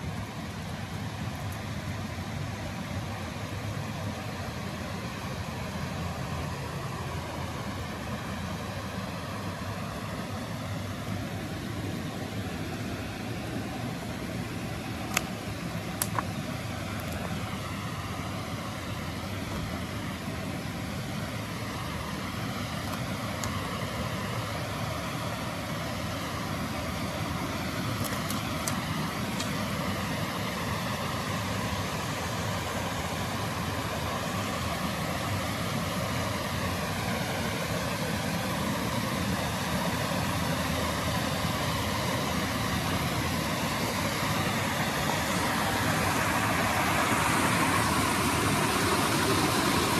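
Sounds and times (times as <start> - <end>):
water rushing over rocks: 0.0 - 49.9.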